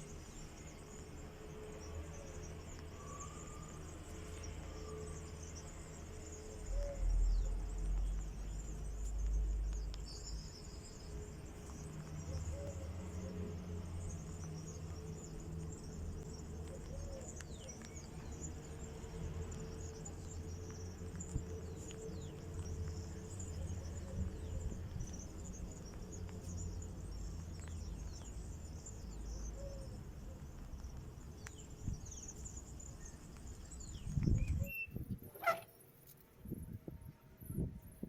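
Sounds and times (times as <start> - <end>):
small birds chirping: 0.0 - 36.7.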